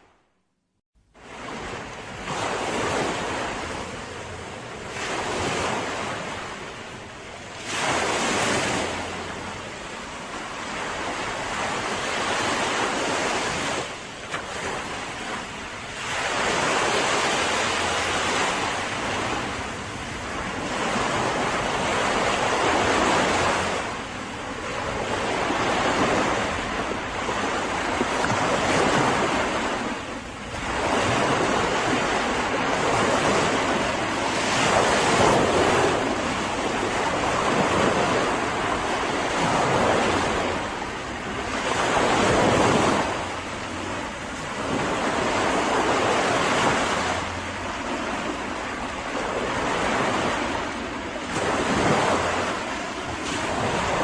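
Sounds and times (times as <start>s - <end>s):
sea waves washing onto beach: 1.2s - 54.0s
wind on microphone: 1.2s - 54.0s.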